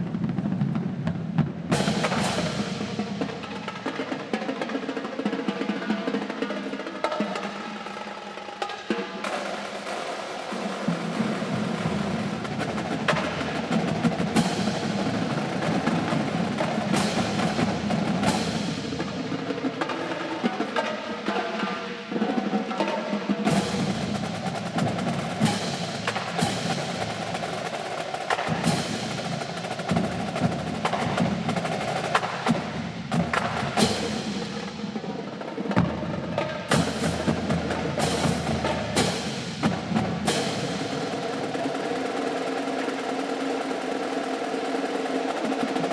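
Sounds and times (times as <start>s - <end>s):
drum line accents: 0.0s - 45.9s
snare drumming and rolls: 0.0s - 45.9s.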